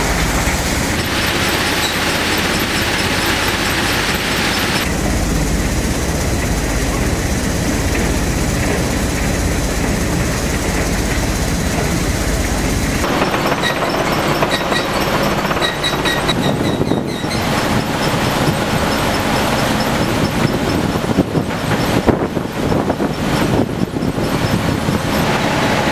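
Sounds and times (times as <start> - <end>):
gravel rattling on steel: 0.0 - 25.7
vibrating screen machinery: 0.0 - 25.9.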